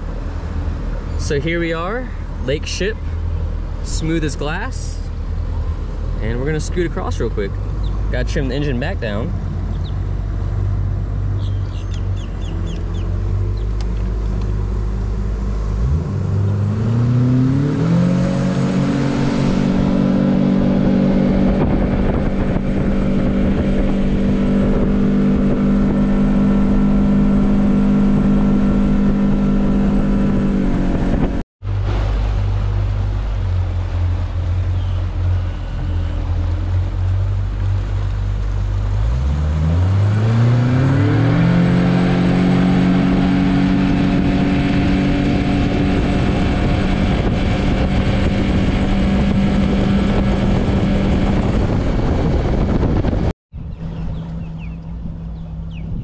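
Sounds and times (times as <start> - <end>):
outboard motor running: 3.0 - 16.7, 18.5 - 56.0.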